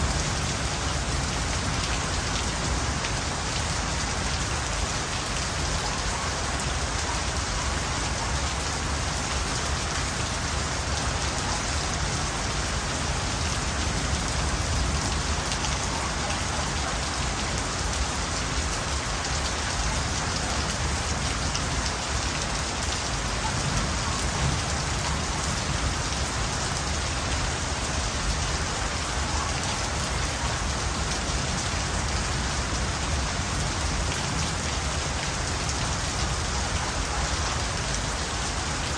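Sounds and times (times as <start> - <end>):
rain falling on surfaces: 0.0 - 38.9.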